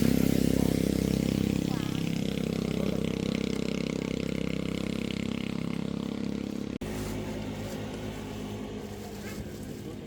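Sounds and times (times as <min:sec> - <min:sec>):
quieter engine running: 0:00.0 - 0:10.0
small engine running: 0:00.0 - 0:10.0.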